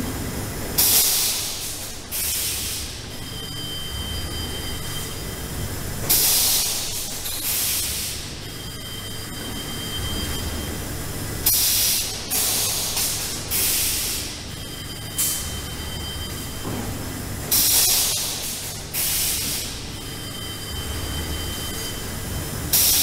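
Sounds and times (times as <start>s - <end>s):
machine humming with high whine: 0.0s - 23.0s.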